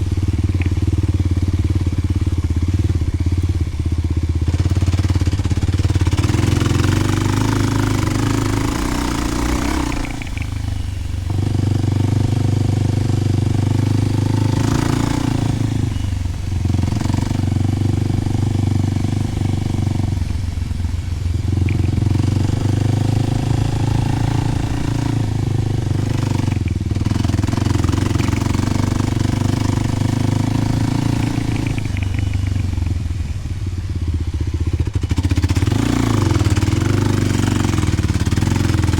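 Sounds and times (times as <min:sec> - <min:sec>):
motorcycle engine under throttle: 0:00.0 - 0:38.9.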